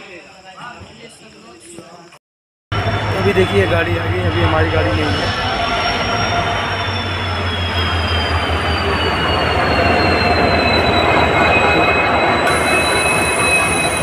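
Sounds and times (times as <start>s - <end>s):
train rumble: 2.7s - 14.0s
train wheel squeals: 2.8s - 14.0s.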